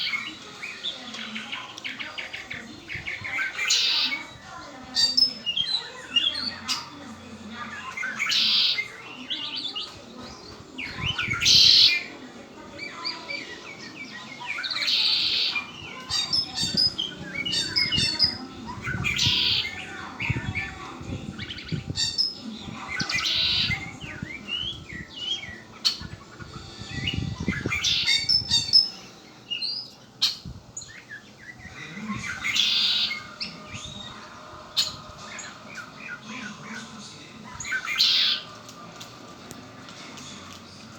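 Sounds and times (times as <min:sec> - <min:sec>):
blackbird trilling song: 0:00.0 - 0:39.1.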